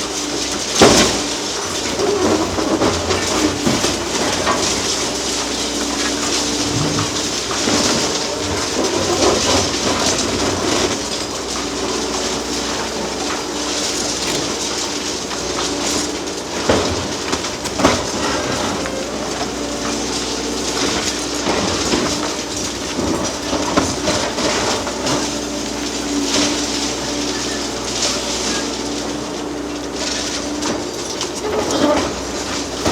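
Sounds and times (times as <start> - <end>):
excavator engine running: 0.0 - 32.9
grinding and clanking of concrete: 0.0 - 32.9.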